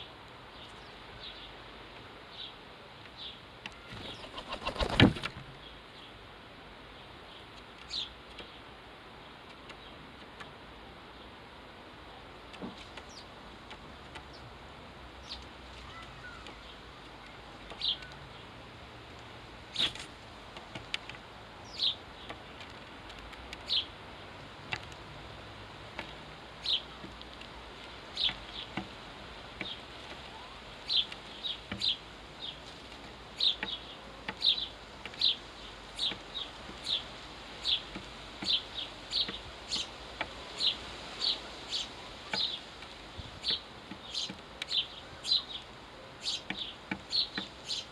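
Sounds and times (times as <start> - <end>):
sparrows chirping: 0.0 - 6.2, 6.9 - 10.0, 12.8 - 13.4, 14.1 - 47.9
faint steady hiss: 0.0 - 47.9.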